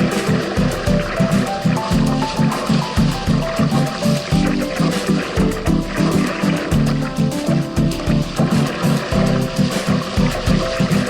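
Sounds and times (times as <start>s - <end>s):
music with fast steady beat: 0.0s - 11.0s.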